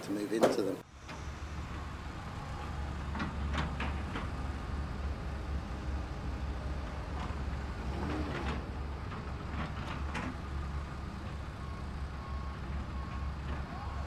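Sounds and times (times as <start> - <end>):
construction machinery rumbling: 0.0 - 14.0.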